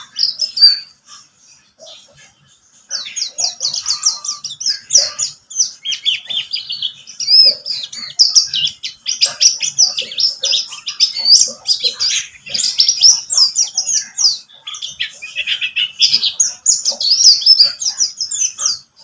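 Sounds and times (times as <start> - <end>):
bird twittering song: 0.0 - 19.0.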